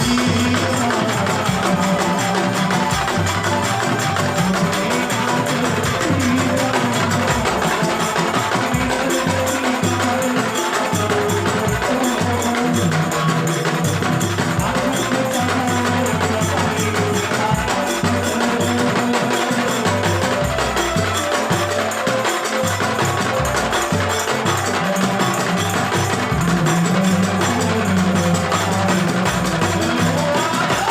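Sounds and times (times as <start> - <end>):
music with percussion and bass: 0.0 - 30.9.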